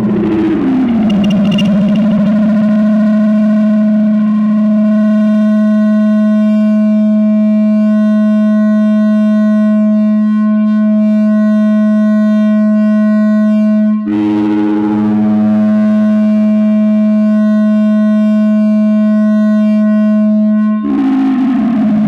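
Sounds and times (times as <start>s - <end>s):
electronic feedback drone: 0.0s - 22.0s.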